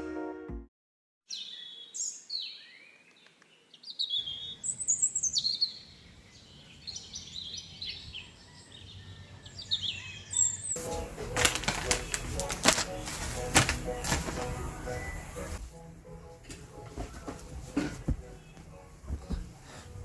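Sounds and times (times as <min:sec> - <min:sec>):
birds chirping: 0:01.3 - 0:15.6, 0:17.0 - 0:20.0.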